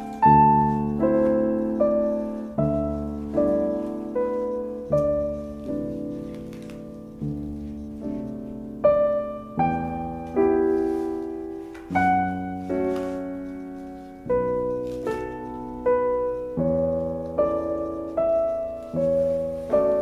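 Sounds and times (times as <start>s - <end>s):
slow solo piano chords: 0.0s - 20.0s.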